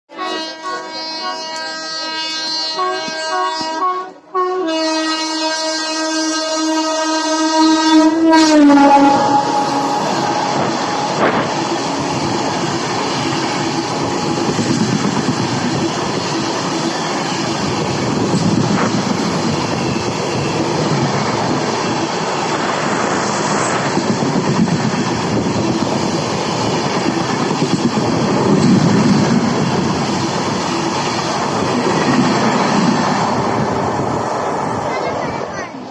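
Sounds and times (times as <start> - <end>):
train wheels rumbling on rails: 6.0 - 35.9.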